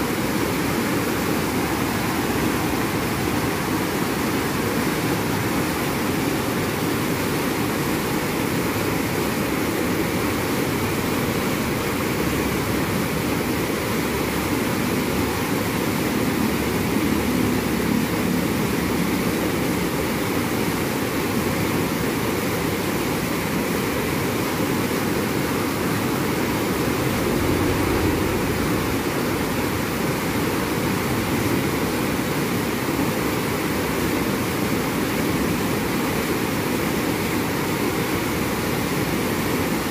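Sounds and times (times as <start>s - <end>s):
river water rushing over riffles: 0.0s - 39.9s.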